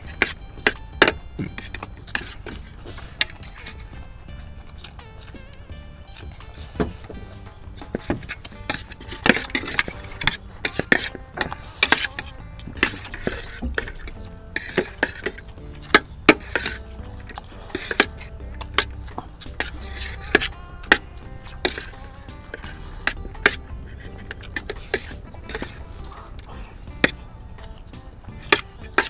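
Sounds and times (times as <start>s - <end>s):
utensils clinking against bowls: 0.0s - 29.0s.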